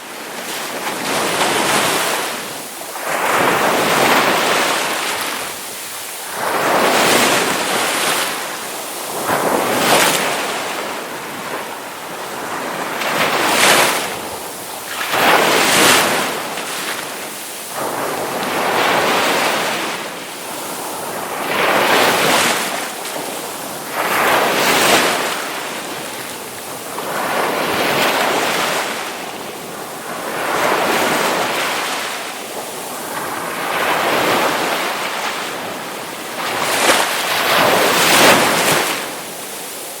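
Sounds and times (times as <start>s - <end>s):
ocean waves breaking on shore: 0.0s - 40.0s
wind: 0.0s - 40.0s.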